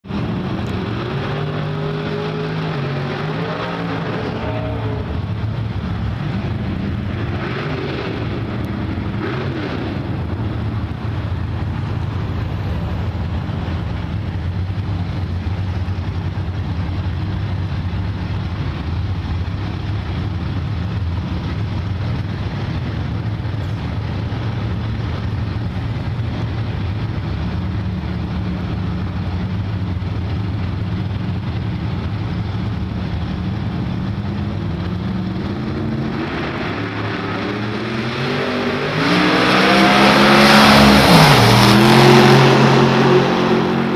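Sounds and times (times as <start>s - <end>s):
car engines idling and revving: 0.0s - 43.9s.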